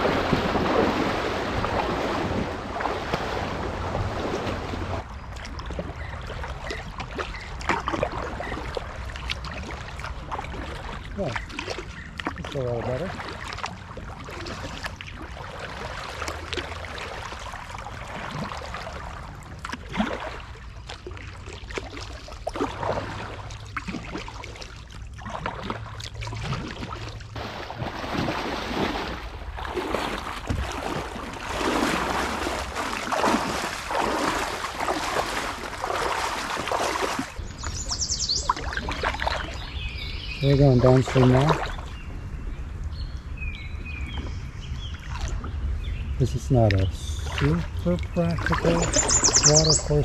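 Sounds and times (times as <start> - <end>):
paddle strokes in water: 0.0 - 42.0, 43.9 - 45.6, 46.4 - 50.0
water splashing: 0.0 - 42.1, 43.8 - 50.0.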